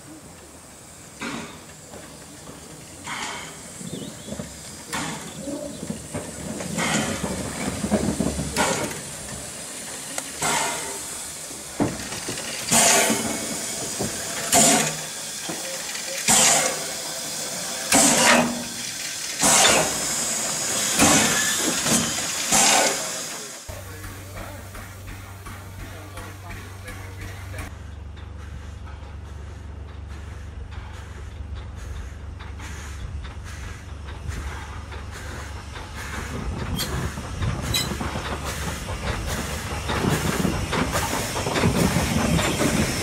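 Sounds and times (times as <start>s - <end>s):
steam pump hissing: 0.0s - 43.0s.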